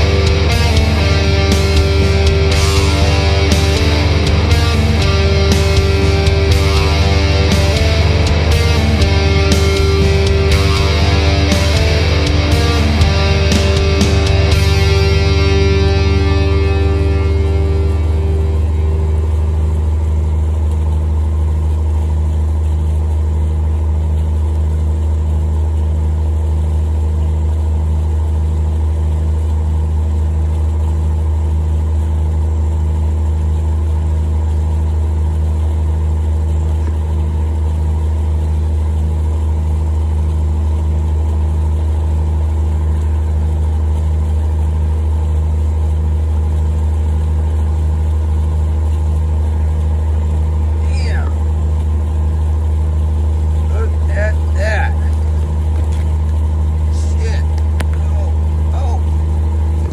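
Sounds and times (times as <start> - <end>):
motor drone with pulsing throb: 0.0 - 59.9.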